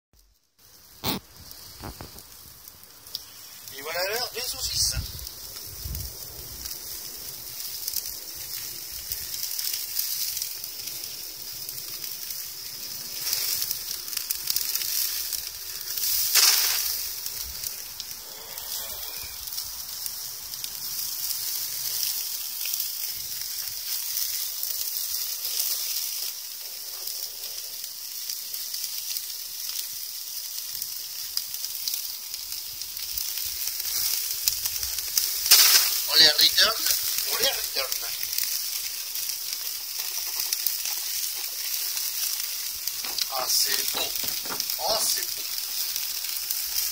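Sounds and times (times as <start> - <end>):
sausages sizzling on a grill: 0.2 - 46.9.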